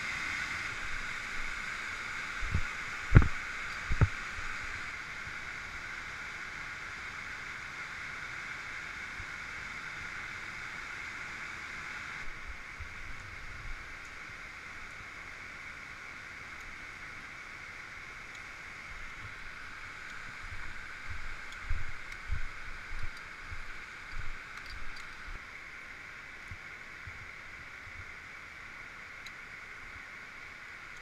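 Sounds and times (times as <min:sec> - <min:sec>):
waterfall and stream rushing: 0:00.0 - 0:31.0.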